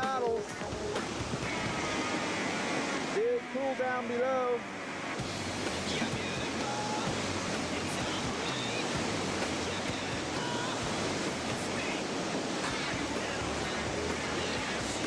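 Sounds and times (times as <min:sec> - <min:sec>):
rushing whitewater rapids: 0:00.0 - 0:15.0.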